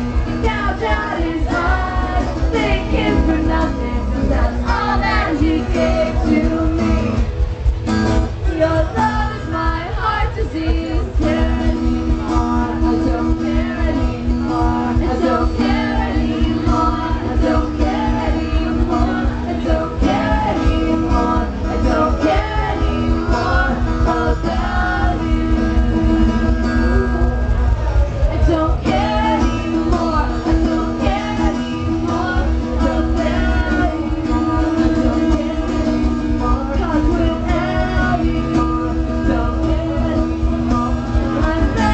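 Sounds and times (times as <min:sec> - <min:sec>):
person singing: 0:00.0 - 0:07.3, 0:08.3 - 0:41.9
live rock band playing: 0:00.0 - 0:41.9.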